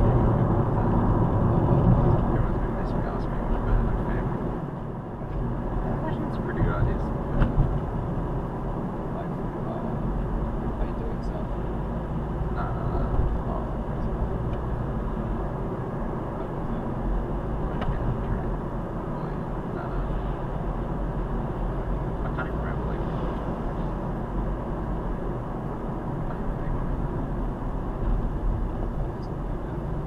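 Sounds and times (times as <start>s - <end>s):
car road noise inside cabin: 0.0s - 30.0s.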